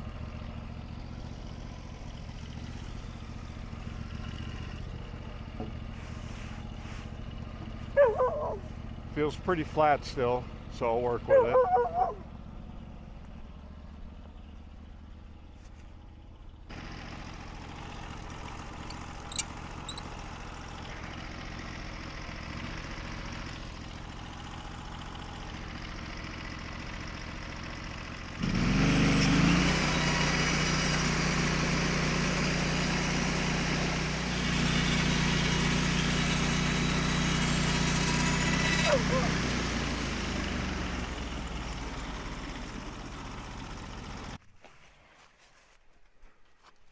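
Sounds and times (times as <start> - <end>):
small gasoline engine running: 0.0 - 44.4.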